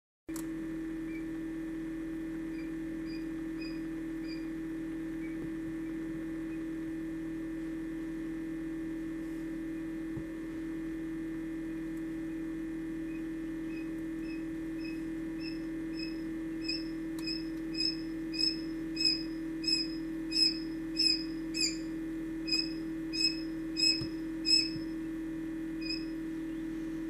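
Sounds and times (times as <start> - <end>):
incubator electrical hum: 0.3 - 27.0.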